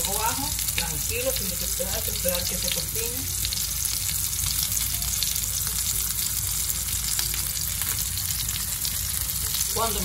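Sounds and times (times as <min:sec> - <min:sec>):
bacon fat crackling: 0:00.0 - 0:10.0
meat sizzling in a frying pan: 0:00.0 - 0:10.0.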